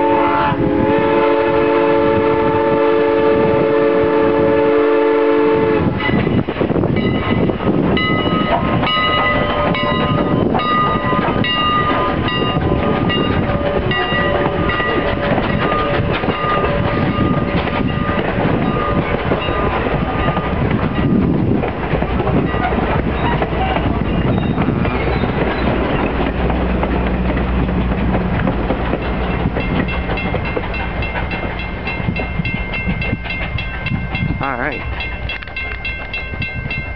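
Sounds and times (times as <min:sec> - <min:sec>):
steam locomotive passing: 0:00.0 - 0:36.9
locomotive bell ringing: 0:05.9 - 0:21.6, 0:22.2 - 0:36.9
train wheels clacking over rail joints: 0:06.0 - 0:36.9.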